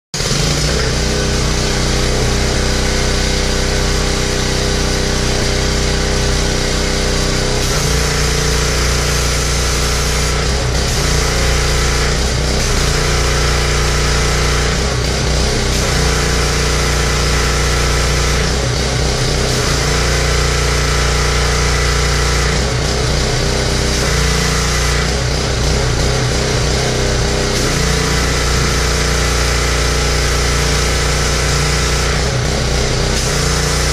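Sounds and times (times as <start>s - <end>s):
pressure washer engine running: 0.1s - 33.9s.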